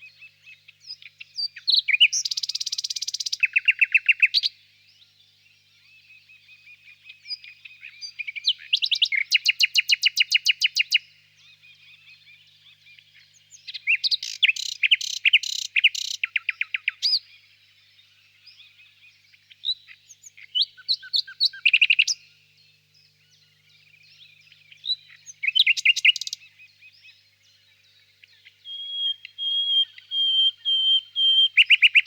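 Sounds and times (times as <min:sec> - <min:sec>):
nightingale singing: 0:00.0 - 0:32.0.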